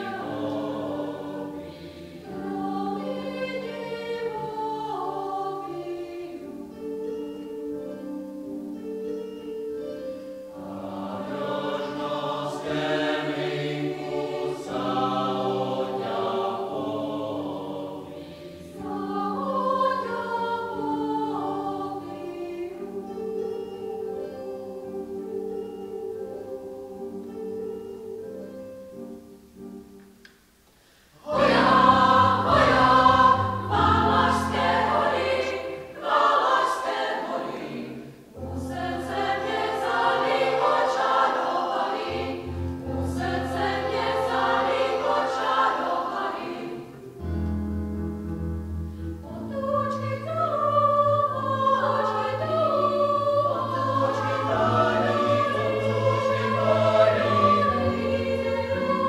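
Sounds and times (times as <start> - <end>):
mixed choir singing: 0.0 - 7.2, 10.5 - 27.8, 31.2 - 47.4, 49.2 - 59.0.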